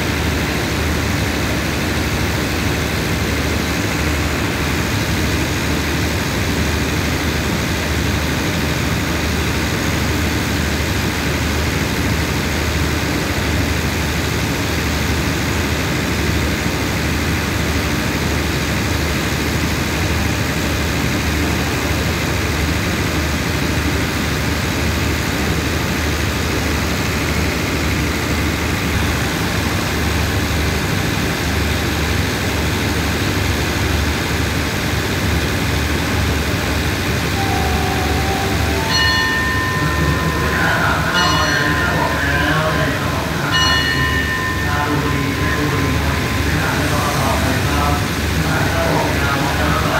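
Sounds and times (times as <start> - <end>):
diesel train engines idling: 0.0 - 49.9.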